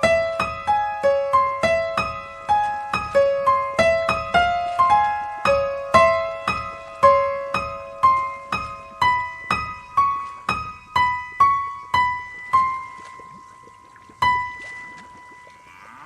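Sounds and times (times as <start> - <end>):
eerie piano melody: 0.0 - 15.8.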